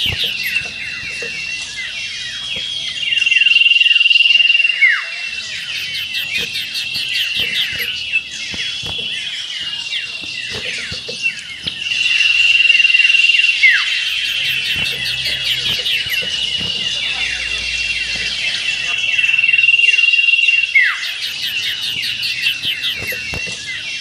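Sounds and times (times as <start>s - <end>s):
bird chirping and trilling: 0.0s - 24.0s.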